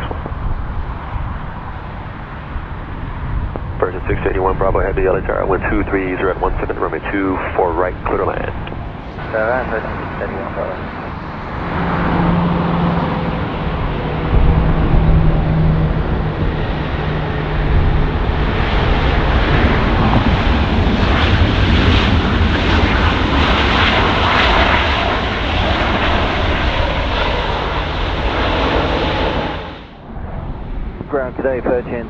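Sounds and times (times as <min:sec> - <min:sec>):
jet airliner engine noise: 0:00.0 - 0:32.0.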